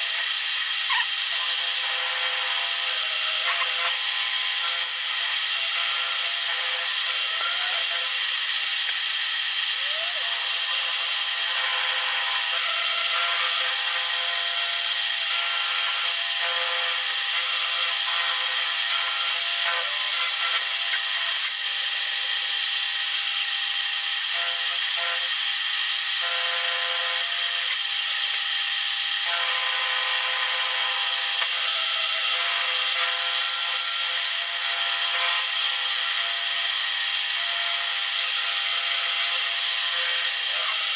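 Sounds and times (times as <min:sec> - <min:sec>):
power tool grinding steel: 0:00.0 - 0:40.9.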